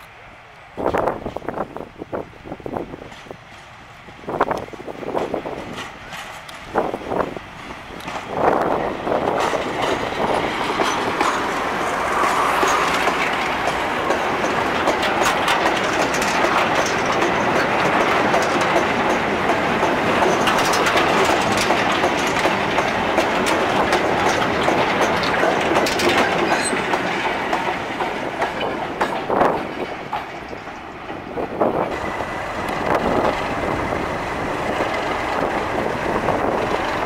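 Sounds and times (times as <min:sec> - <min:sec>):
diesel locomotive passing: 0:00.0 - 0:37.0
train wheels clattering over joints: 0:02.9 - 0:37.0.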